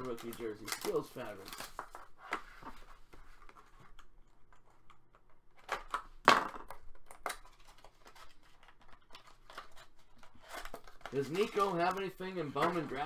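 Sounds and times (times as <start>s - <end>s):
trading cards rustling and clicking: 0.0s - 13.0s.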